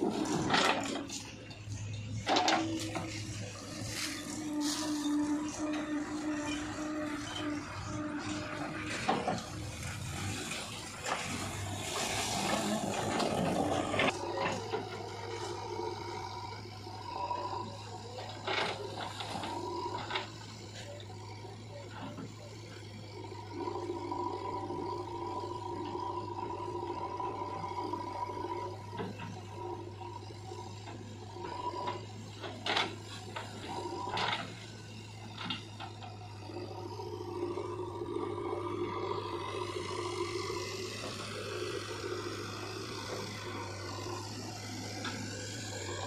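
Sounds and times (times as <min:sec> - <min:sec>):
diesel engine running: 0:00.0 - 0:46.0
hydraulics whining under load: 0:00.0 - 0:46.0.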